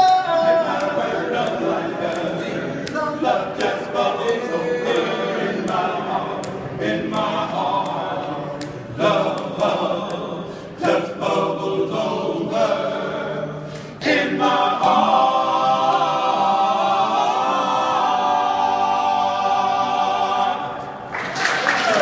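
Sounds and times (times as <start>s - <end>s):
male a cappella group singing: 0.0s - 21.1s.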